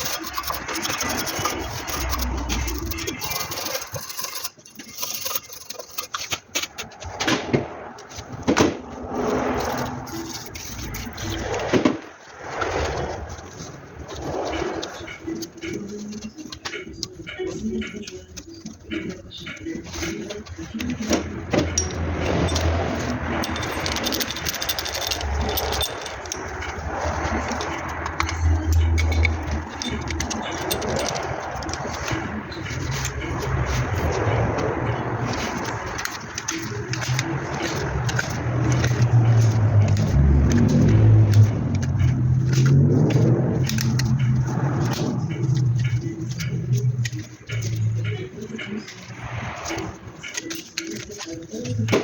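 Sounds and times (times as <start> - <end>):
metal clinks and knocks: 0.0 - 7.2, 8.0 - 12.1, 13.4 - 52.0
metal parts scraping: 0.0 - 52.0.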